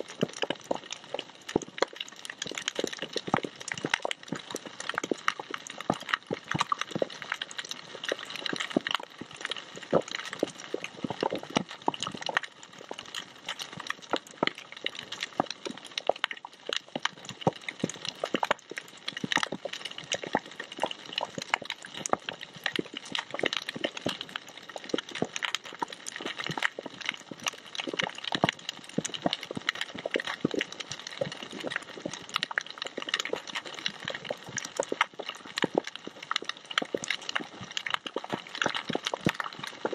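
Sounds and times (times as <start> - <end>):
snapping shrimp clicks underwater: 0.0 - 39.9.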